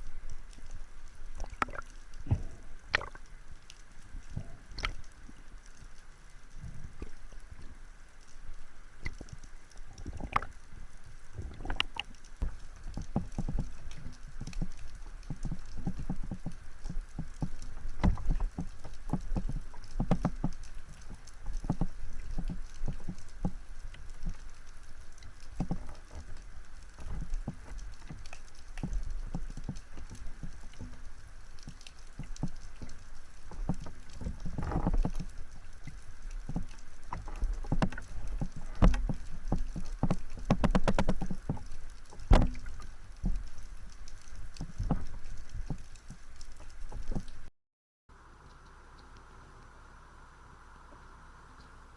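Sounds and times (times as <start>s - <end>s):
steady water hiss: 0.0s - 47.5s, 48.1s - 51.9s
underwater clicks and knocks: 1.4s - 5.8s, 9.0s - 10.6s, 11.3s - 47.5s.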